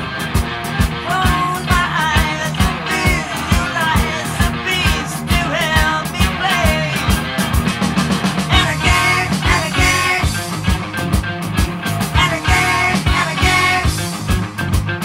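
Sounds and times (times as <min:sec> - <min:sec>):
rock song with singing: 0:00.0 - 0:15.0
steady drum beat: 0:00.0 - 0:15.0.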